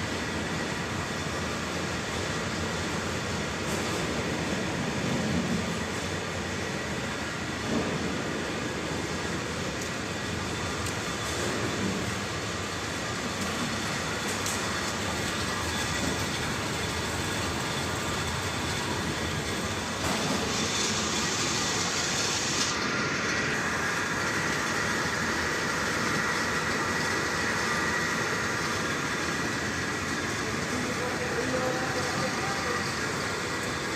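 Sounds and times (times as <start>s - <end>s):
machine rumbling and hissing: 0.0s - 33.9s.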